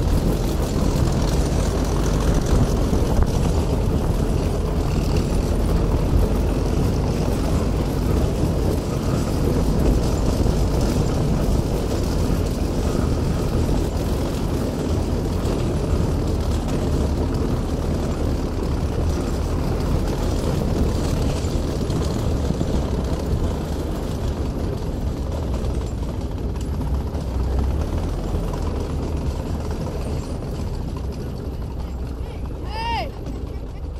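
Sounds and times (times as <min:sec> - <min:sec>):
engine low rumble: 0:00.0 - 0:33.9.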